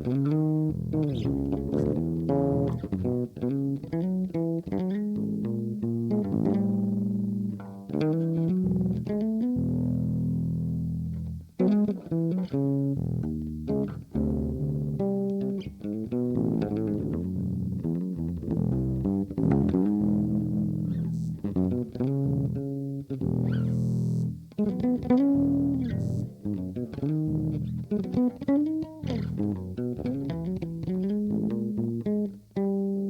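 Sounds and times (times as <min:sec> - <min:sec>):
electric bass with fuzz and delay: 0:00.0 - 0:33.0.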